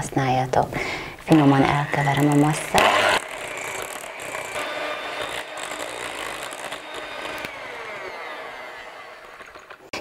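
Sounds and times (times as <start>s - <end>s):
electric mixer whining: 1.3s - 10.0s
batter churning: 1.7s - 10.0s.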